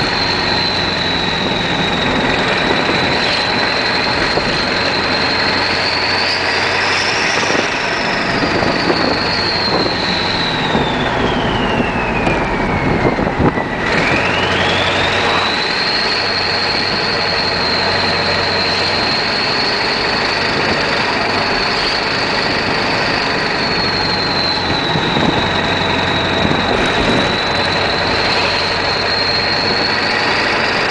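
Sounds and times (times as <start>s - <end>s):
diesel truck engine running: 0.0s - 30.9s
turbo whistle: 0.0s - 30.9s.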